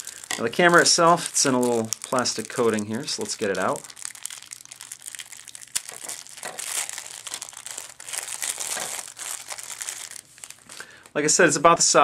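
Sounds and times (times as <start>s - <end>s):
plastic film crinkling: 0.0s - 11.1s.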